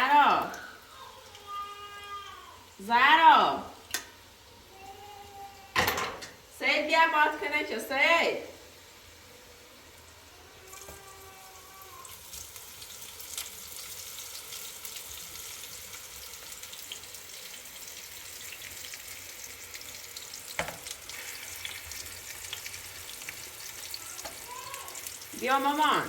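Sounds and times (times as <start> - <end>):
sizzling hiss with crackles: 0.0 - 26.0.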